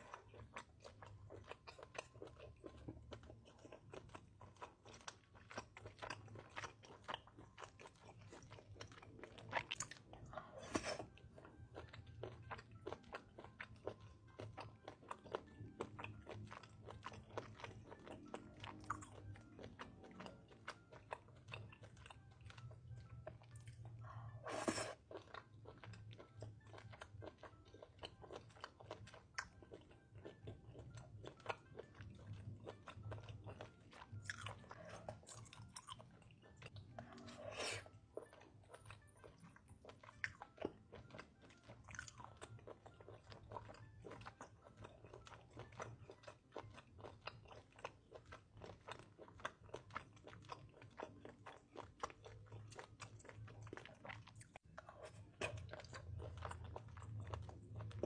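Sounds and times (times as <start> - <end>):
close-miked wet chewing: 0.0 - 58.0.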